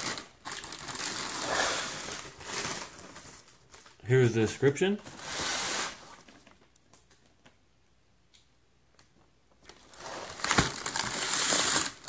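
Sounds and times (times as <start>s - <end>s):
crinkling and rustling: 0.0s - 7.6s, 9.0s - 12.0s.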